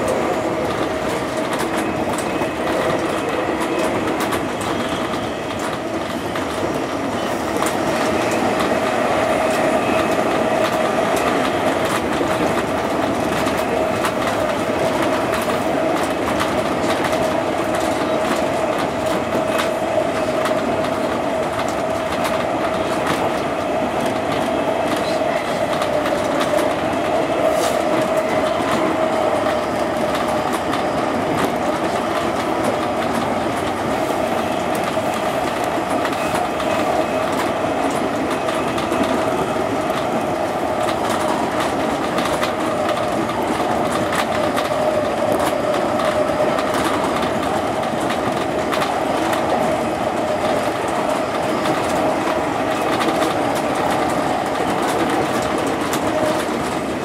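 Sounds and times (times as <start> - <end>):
electric train hum: 0.0 - 57.0.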